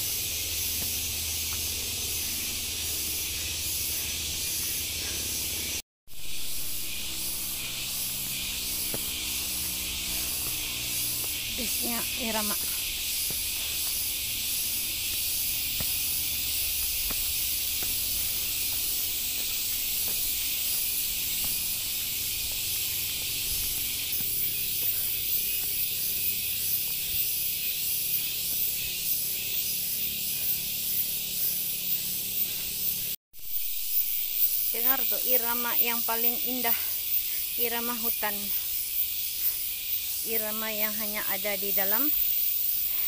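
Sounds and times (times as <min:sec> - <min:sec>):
cicadas chorus hissing: 0:00.0 - 0:43.0.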